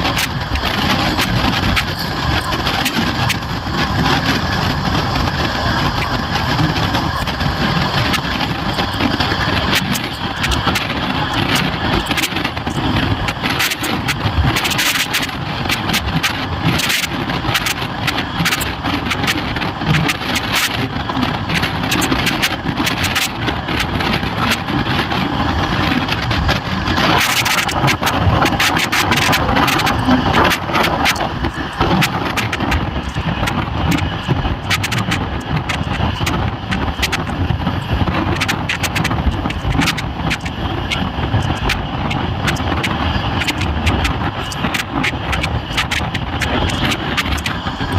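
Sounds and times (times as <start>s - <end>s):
train clattering and rattling: 0.0s - 47.9s
train rumbling: 0.0s - 47.9s.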